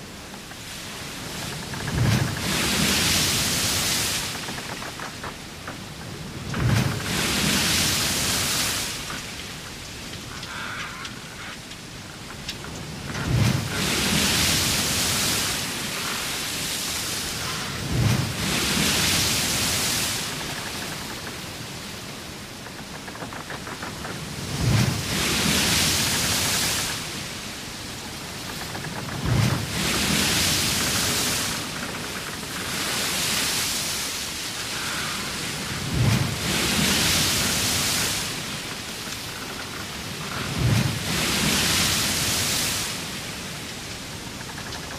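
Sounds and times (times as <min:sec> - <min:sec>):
water rushing along ship hull: 0:00.0 - 0:44.9.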